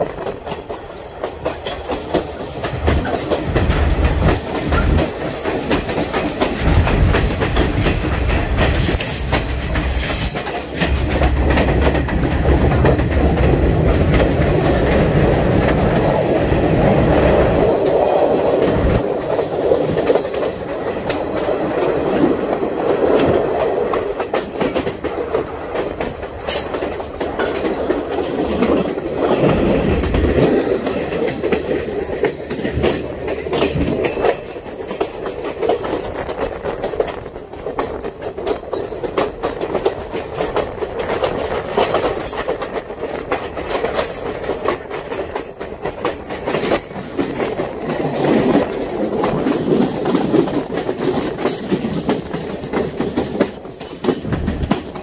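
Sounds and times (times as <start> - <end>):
train rumbling on track: 0.0 - 55.0
wheels clicking over rails: 0.0 - 55.0.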